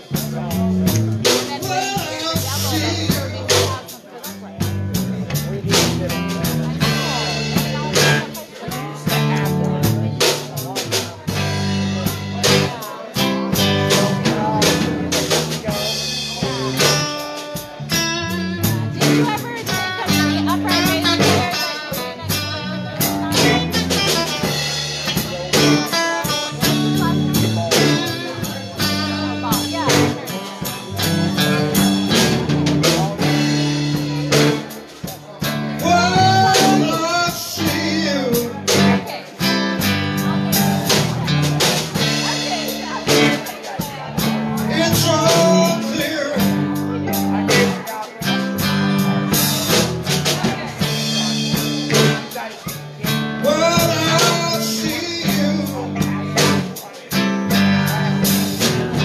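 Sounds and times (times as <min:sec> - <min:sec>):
bass guitar: 0:00.0 - 0:59.0
blues band playing: 0:00.0 - 0:59.0
drum beat: 0:00.0 - 0:59.0
electric guitars: 0:00.0 - 0:59.0.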